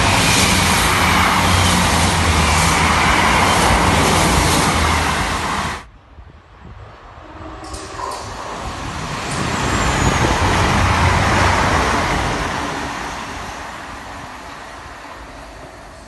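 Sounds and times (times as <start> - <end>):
electric train passing: 0.0 - 5.9, 6.6 - 16.0.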